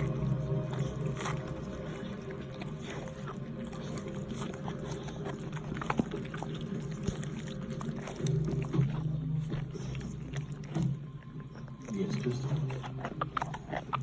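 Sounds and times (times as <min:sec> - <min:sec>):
low hum: 0:00.0 - 0:11.8
dog licking puppy: 0:00.0 - 0:14.0.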